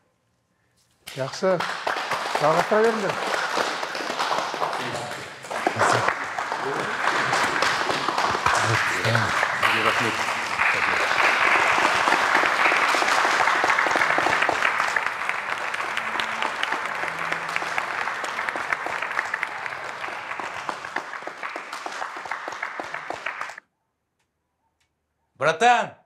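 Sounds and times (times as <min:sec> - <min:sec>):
people applauding: 0:01.1 - 0:23.6.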